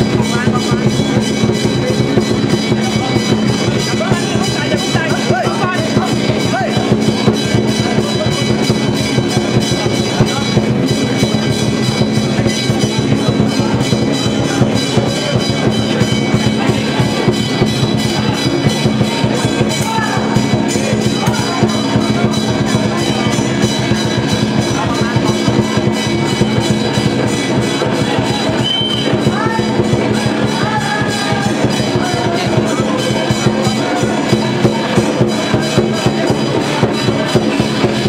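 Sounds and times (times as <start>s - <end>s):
crowd voices: 0.0s - 38.0s
drums playing fast beat: 0.0s - 38.0s.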